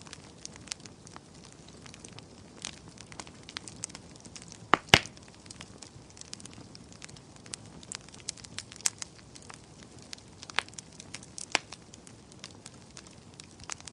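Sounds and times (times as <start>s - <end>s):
burning wood crackling: 0.0s - 13.9s
flames hissing: 0.0s - 13.9s.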